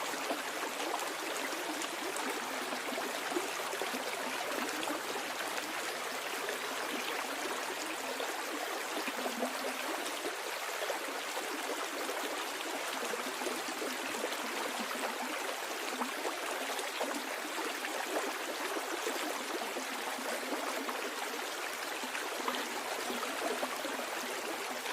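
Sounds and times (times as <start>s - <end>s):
stream water flowing: 0.0s - 24.9s.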